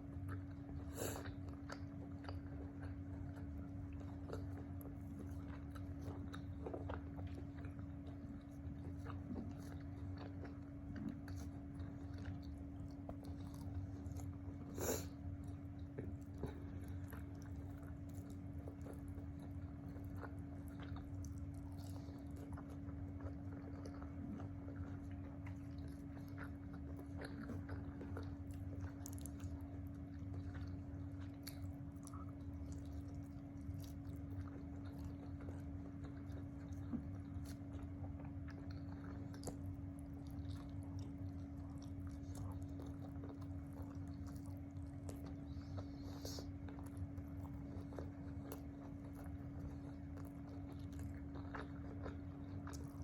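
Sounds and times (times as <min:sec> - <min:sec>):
person chewing food: 0:00.0 - 0:53.0
steady background hum: 0:00.0 - 0:53.0.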